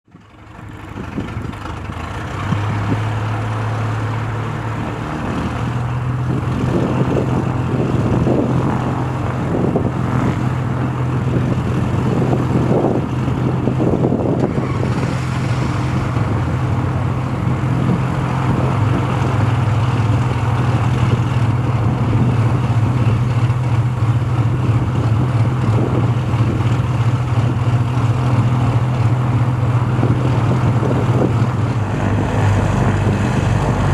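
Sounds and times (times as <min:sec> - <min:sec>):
propeller plane engine droning: 0:00.1 - 0:33.9.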